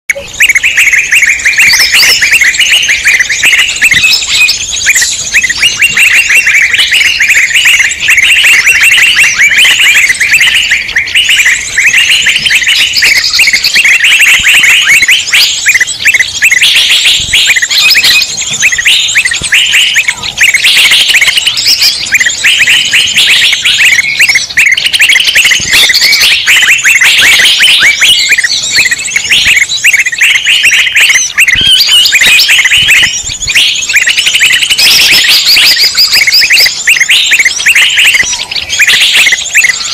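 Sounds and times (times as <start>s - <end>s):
many small birds chirping: 0.1s - 39.9s.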